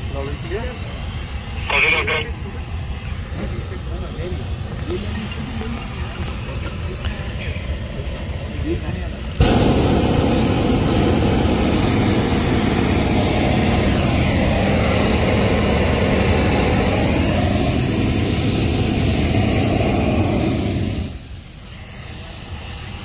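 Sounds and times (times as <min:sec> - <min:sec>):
propane burner roaring: 0:00.0 - 0:23.0
steady engine-like noise: 0:00.0 - 0:23.0.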